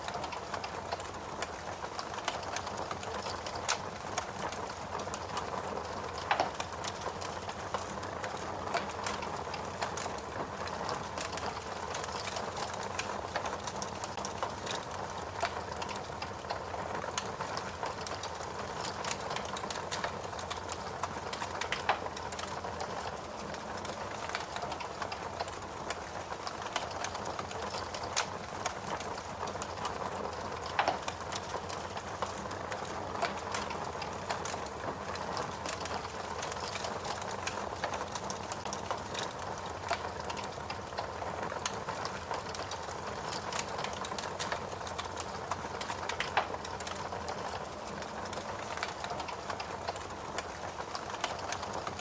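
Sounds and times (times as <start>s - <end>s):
fire popping: 0.0s - 52.0s
wood fire crackling: 0.0s - 52.0s.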